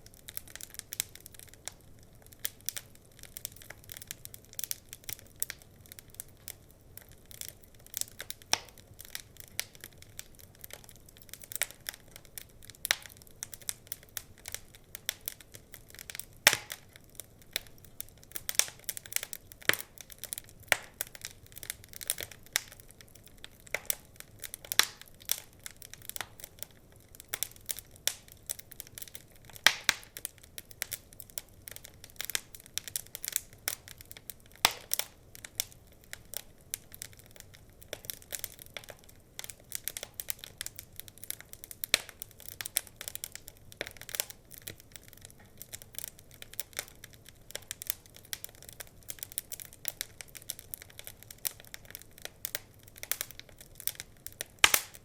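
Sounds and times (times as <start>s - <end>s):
faint fire hiss: 0.0s - 55.0s
wood fire crackling and popping: 0.0s - 55.0s.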